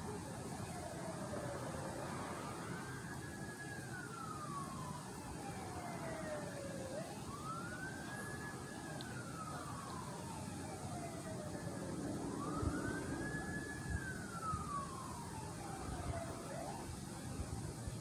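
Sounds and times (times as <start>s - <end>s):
faint siren wailing: 0.0s - 18.0s
low background noise: 0.0s - 18.0s.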